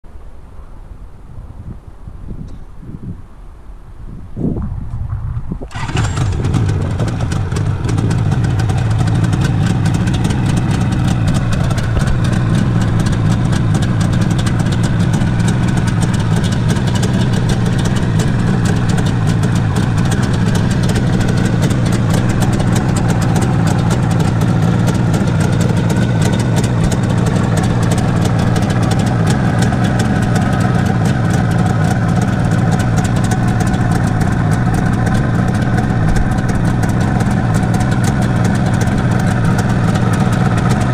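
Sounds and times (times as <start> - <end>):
motorcycle engine idling: 5.7 - 40.9.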